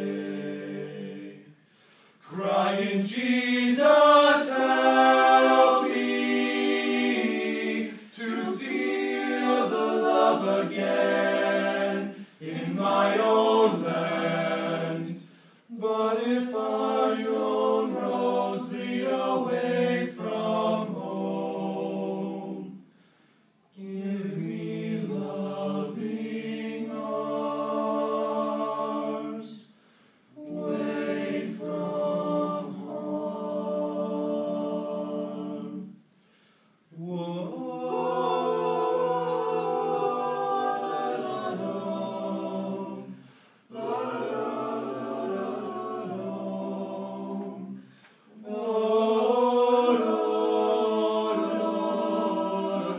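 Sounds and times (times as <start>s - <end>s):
male voices singing in harmony: 0.0s - 1.6s, 2.2s - 22.8s, 23.7s - 29.8s, 30.4s - 36.0s, 36.9s - 52.9s.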